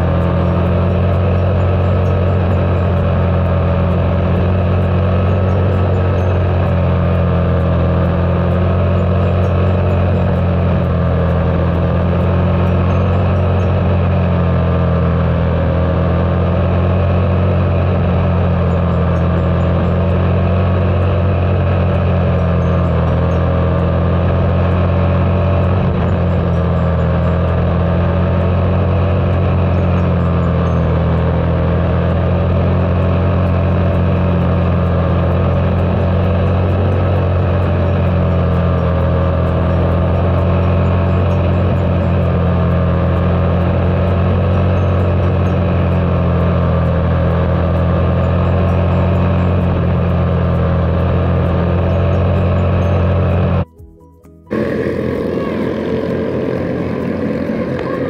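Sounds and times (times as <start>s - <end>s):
heavy low rumble: 0.0s - 48.1s, 54.5s - 58.0s
small race car engine running: 0.0s - 53.8s, 54.5s - 58.0s.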